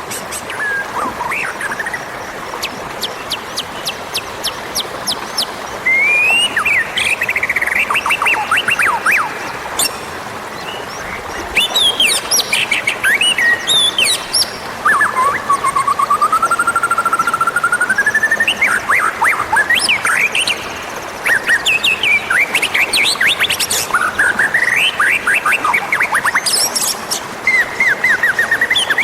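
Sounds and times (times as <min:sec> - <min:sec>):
bird singing whistles and trills: 0:02.6 - 0:10.0, 0:10.6 - 0:20.7, 0:21.3 - 0:29.0.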